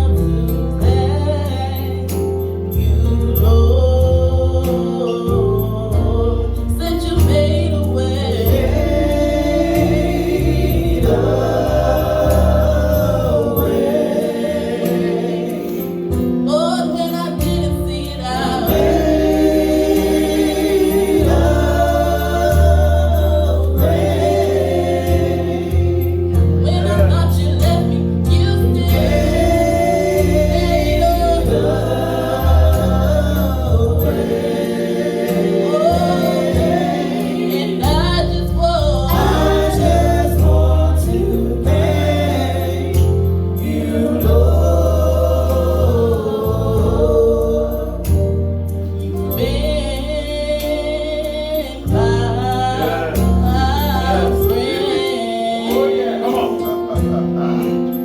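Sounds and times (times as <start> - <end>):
choir singing gospel: 0.0 - 58.0
instrumental accompaniment with bass: 0.0 - 58.0.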